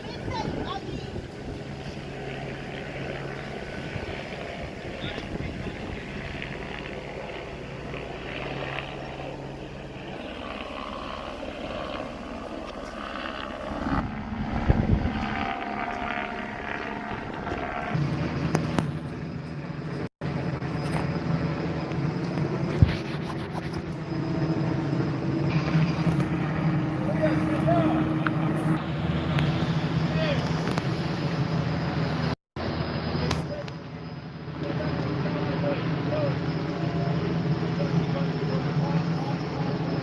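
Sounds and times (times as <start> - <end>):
helicopter drone: 0.0 - 40.0.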